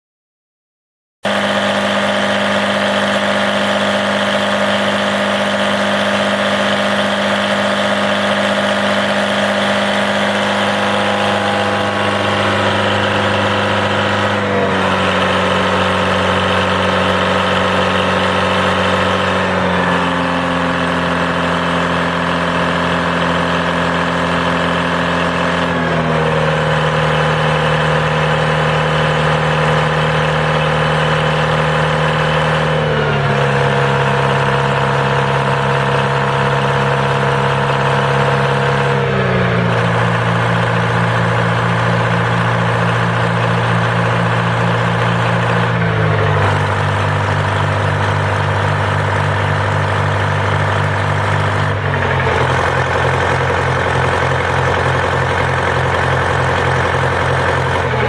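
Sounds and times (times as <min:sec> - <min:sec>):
diesel generator engine running: 0:01.2 - 0:58.0.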